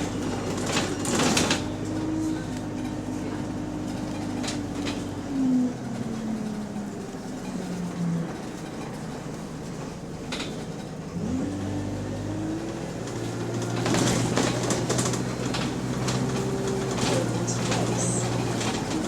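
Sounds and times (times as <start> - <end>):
diesel bus engine: 0.0 - 19.0.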